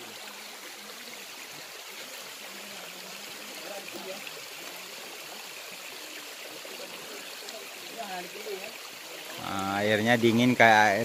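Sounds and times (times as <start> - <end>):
waterfall rushing and trickling: 0.0 - 11.0.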